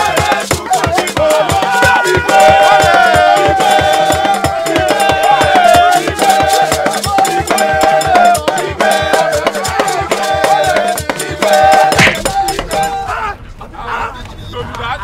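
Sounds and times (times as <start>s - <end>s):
hand drums: 0.0s - 13.0s
men singing in chorus: 0.0s - 13.4s.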